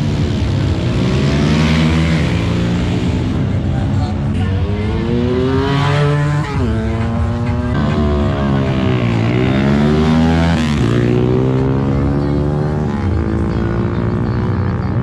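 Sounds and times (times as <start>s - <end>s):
motorcycle engines accelerating hard: 0.0s - 15.0s.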